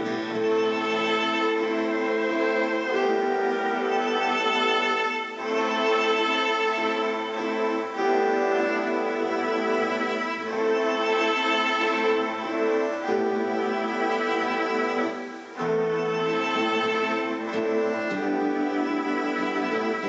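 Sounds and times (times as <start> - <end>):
ambient looped cello music: 0.0 - 20.0.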